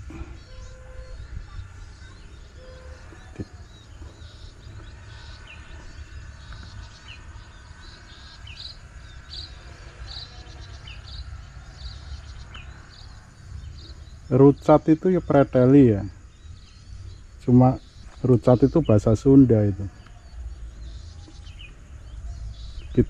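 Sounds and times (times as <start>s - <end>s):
insects chirping in pulses: 0.0s - 23.0s
low uneven rumble: 0.0s - 23.0s.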